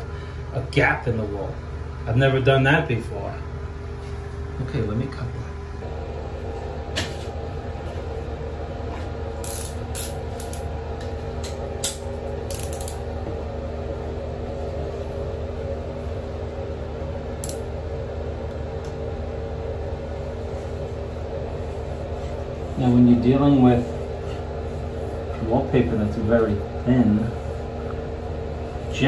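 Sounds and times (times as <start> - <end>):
steady mechanical hum: 0.0 - 29.0.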